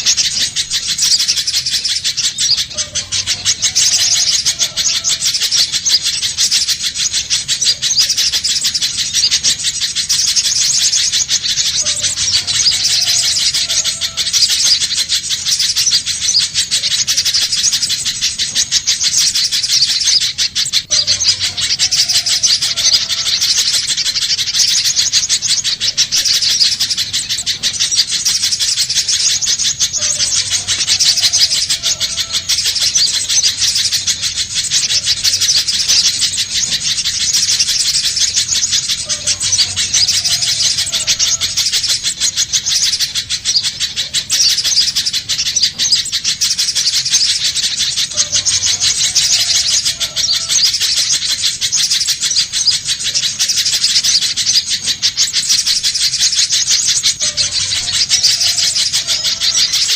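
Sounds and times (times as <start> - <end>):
bird rapid high-pitched chattering: 0.0 - 59.9.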